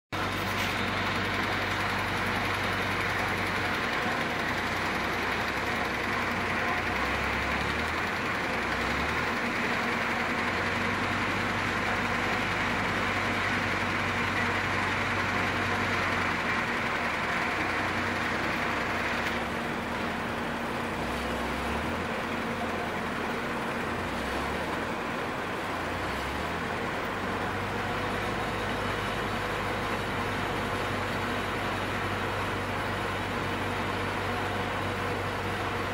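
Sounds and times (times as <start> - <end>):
conveyor machinery din: 0.2 - 35.9.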